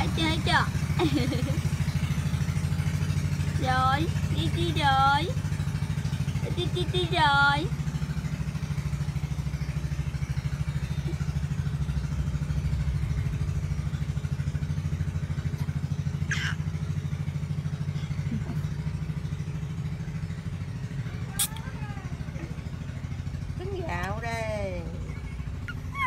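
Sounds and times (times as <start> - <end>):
motor running with fast throb: 0.0 - 26.0.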